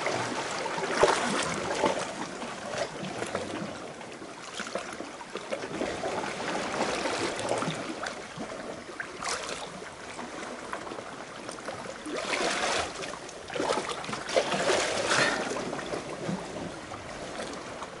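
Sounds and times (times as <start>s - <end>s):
seawater lapping against rocks: 0.0s - 18.0s.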